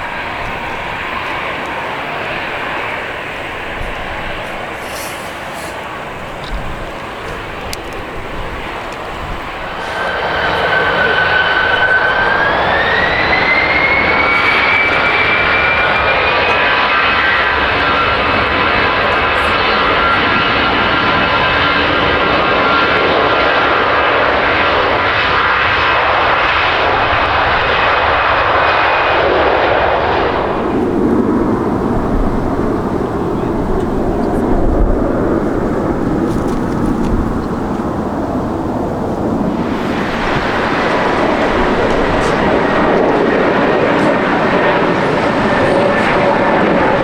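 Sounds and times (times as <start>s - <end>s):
low engine rumble: 0.0s - 22.3s, 30.2s - 47.0s
jet engines whining: 0.0s - 47.0s.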